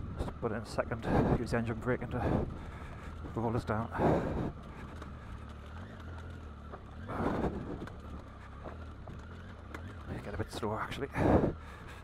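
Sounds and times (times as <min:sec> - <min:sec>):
motorcycle engine running low: 0:00.0 - 0:12.0.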